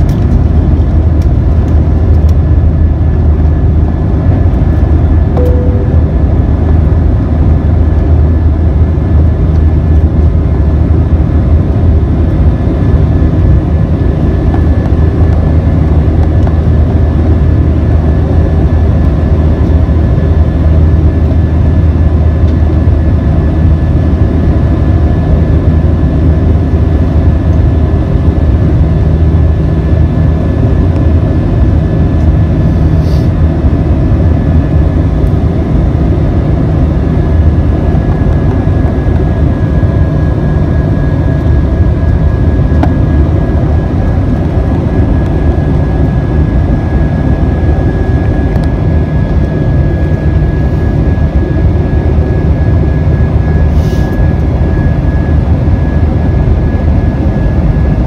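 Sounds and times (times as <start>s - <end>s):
airplane cabin rumble: 0.0s - 58.0s
thin steady whine: 0.0s - 58.0s.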